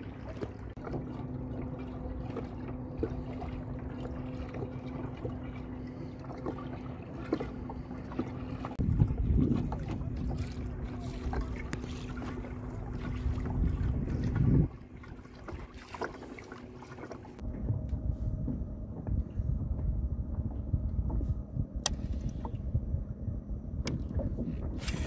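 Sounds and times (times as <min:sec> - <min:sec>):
choppy water: 0:00.0 - 0:25.0
wind buffeting microphone: 0:01.1 - 0:15.9, 0:17.4 - 0:25.0.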